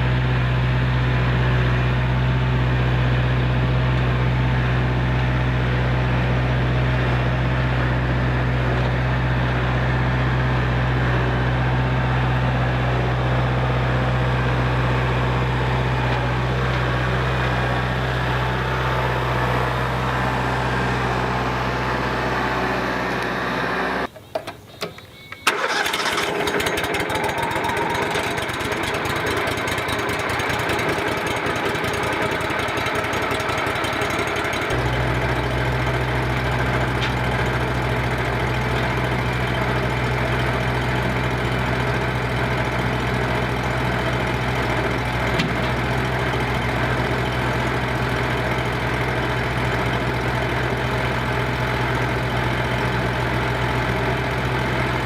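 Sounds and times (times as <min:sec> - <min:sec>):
engine low drone: 0:00.0 - 0:24.1, 0:25.4 - 0:55.0
rough rattling engine: 0:01.3 - 0:24.1, 0:25.5 - 0:55.0.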